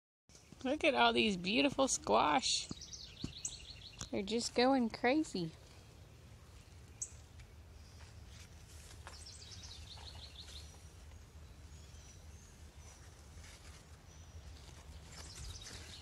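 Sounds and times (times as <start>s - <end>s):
birds trilling and chirping: 0.3s - 16.0s.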